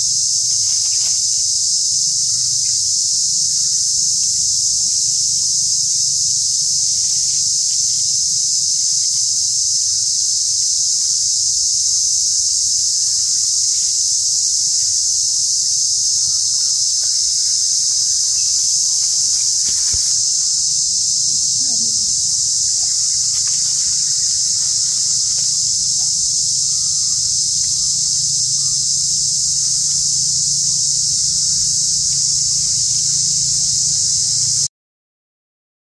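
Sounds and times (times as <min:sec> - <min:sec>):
insects droning: 0:00.0 - 0:34.7.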